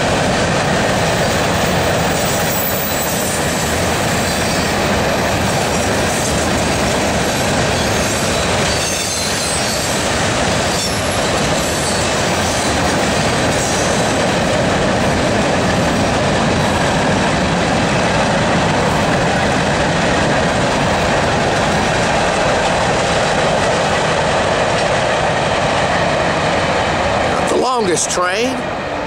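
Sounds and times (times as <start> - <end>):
freight train rolling past: 0.0 - 29.0
steel wheels running on rail: 0.0 - 29.0.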